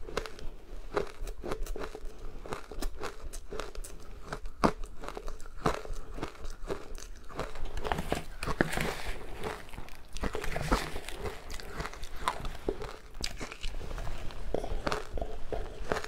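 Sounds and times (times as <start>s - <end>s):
ice being chewed crunching: 0.0s - 16.0s.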